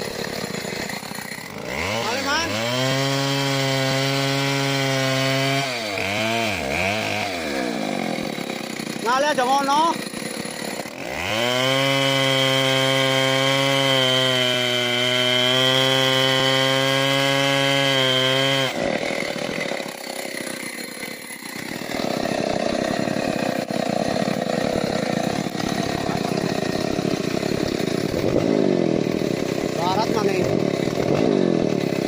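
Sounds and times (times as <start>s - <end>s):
chainsaw cutting wood: 0.0s - 32.0s
chainsaw revving: 0.0s - 32.0s.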